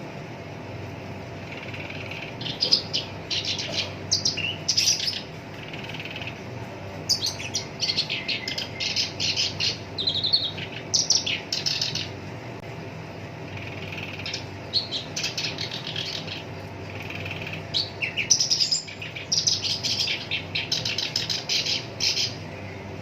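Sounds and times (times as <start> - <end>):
warbler chattering song: 0.4 - 12.3, 13.3 - 23.0.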